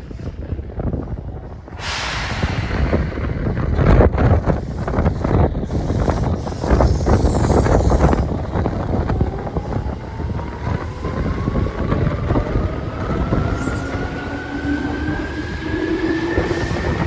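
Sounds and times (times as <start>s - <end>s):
train wheel and car rumble: 0.0s - 17.0s.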